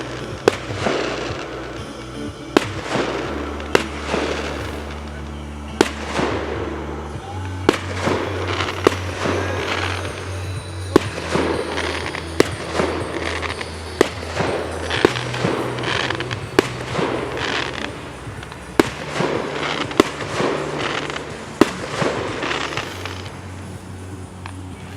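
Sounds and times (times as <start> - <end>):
fireworks bangs: 0.0 - 24.9
fireworks crackling: 0.0 - 24.9.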